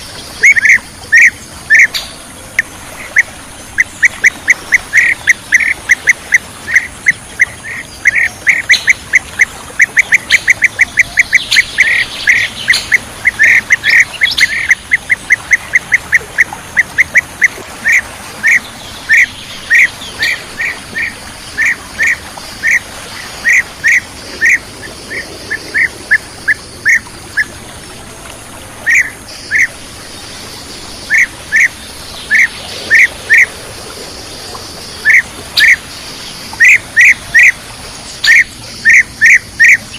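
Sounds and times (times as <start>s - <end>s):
bird calls: 0.0s - 28.0s, 28.8s - 39.9s.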